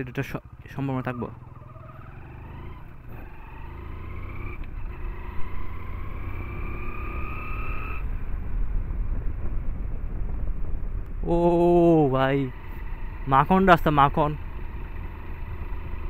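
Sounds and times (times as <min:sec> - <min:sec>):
motorcycle engine whine: 0:00.0 - 0:16.0.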